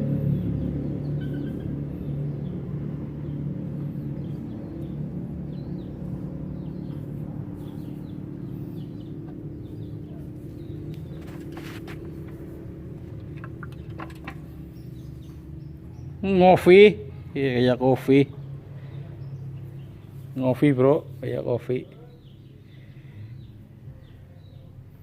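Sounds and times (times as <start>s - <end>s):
diesel engine humming: 0.0s - 24.6s
birds chirping: 0.0s - 25.0s.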